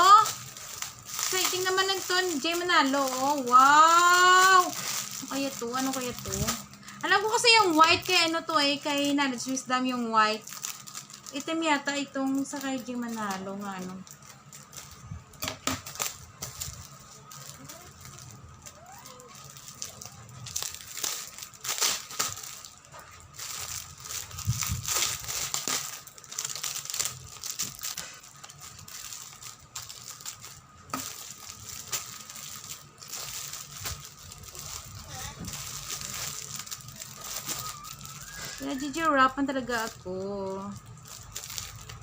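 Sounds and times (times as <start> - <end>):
packaging crinkling and tearing: 0.0 - 42.0.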